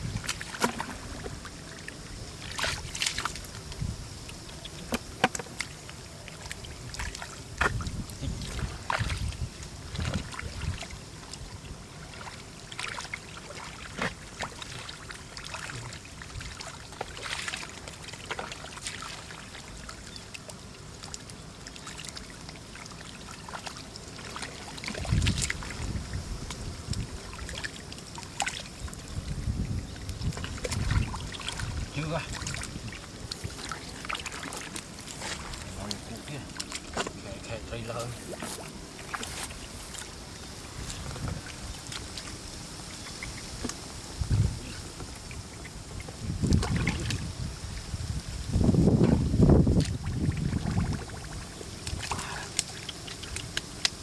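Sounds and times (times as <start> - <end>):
muddy water splashing: 0.0 - 54.0.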